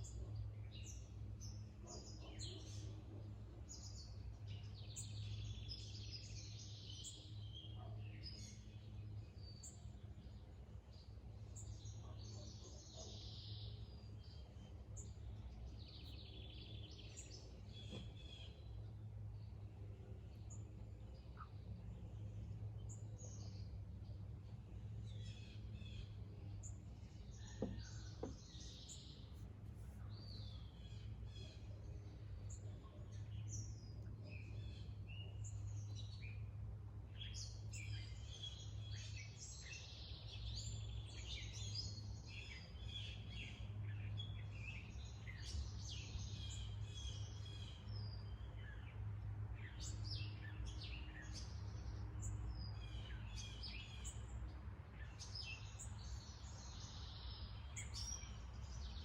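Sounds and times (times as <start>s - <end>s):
birds chirping and singing: 0.0s - 59.0s
steady low hum: 0.0s - 59.0s.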